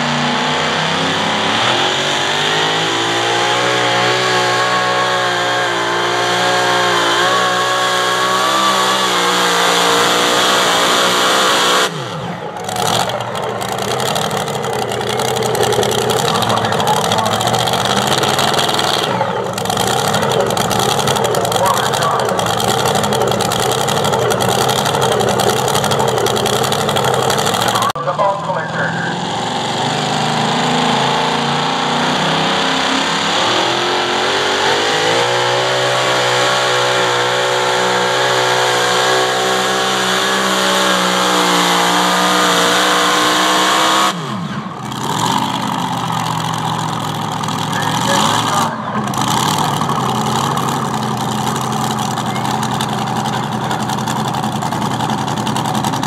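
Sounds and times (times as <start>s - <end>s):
pulling tractor engine at full throttle: 0.0s - 56.0s.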